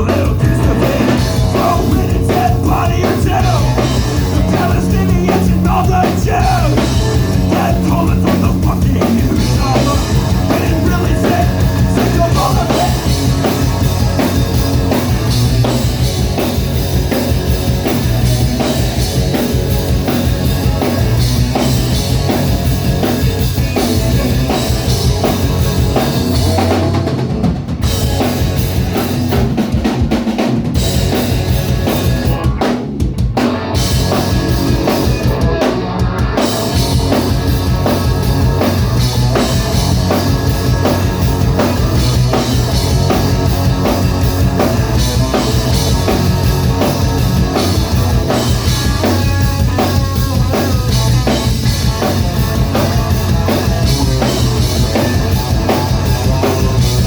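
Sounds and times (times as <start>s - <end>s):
bass drum and snare: 0.0s - 57.0s
live rock band playing: 0.0s - 57.0s.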